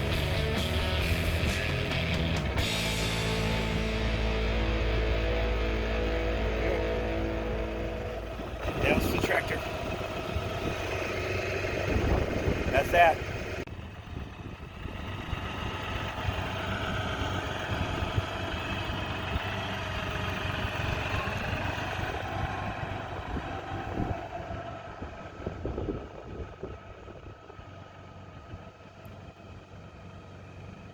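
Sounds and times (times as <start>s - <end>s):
diesel tractor engine running: 0.0s - 30.9s.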